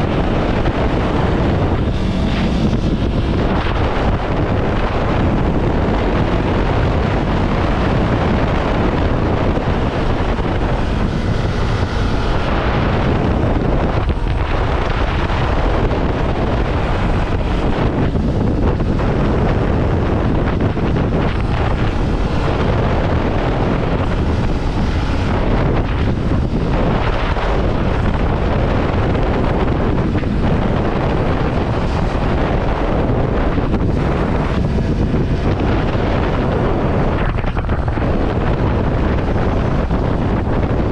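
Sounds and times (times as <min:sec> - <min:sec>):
motorcycle engine running: 0:00.0 - 0:40.9
wind buffeting on microphone: 0:00.0 - 0:40.9.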